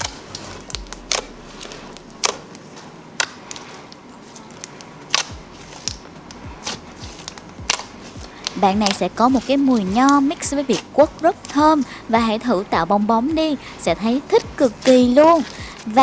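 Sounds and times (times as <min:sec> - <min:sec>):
slime popping and clicking: 0:00.0 - 0:04.0, 0:04.7 - 0:16.0.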